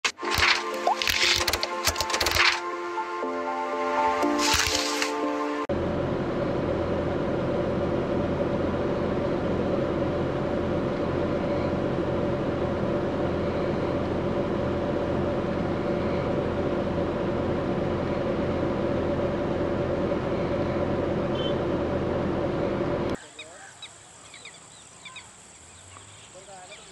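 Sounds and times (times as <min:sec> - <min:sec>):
machine-like drone: 0:00.0 - 0:23.2.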